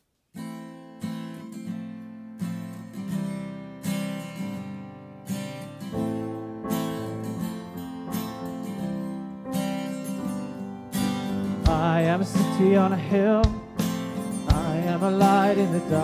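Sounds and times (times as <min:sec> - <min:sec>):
acoustic guitar strumming: 0:00.3 - 0:16.0.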